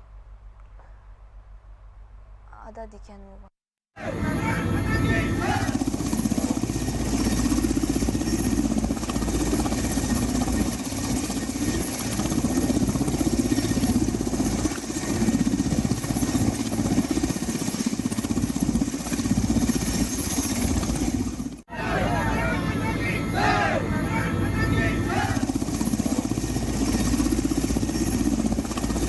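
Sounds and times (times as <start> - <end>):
helicopter turbines and rotors: 4.0 - 29.0.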